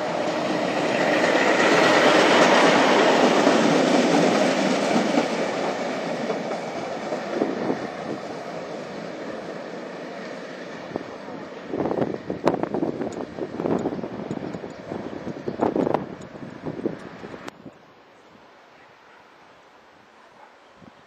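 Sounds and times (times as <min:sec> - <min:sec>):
tram wheels rumbling on track: 0:00.0 - 0:17.5.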